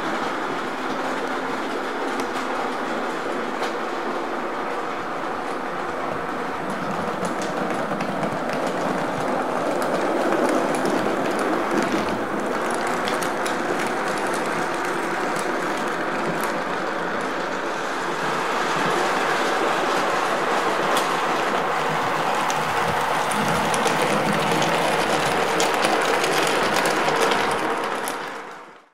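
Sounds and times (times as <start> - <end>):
model train rumbling along track: 0.0 - 28.9
wheels clicking over track: 0.0 - 28.9.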